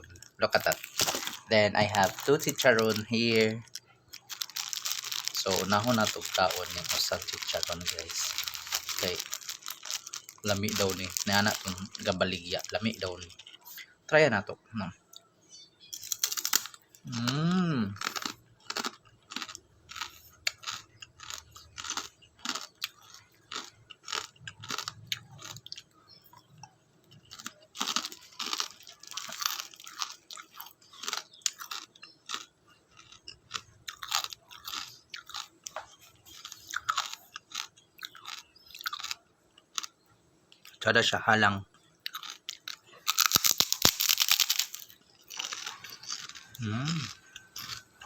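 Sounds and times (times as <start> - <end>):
person chewing crunchy food: 0.0 - 13.8, 15.9 - 40.0, 41.7 - 48.0.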